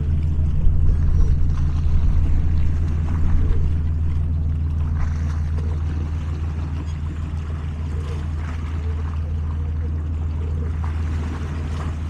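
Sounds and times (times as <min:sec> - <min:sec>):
boat engine droning: 0:00.0 - 0:12.0
waves lapping on rocks: 0:00.0 - 0:12.0.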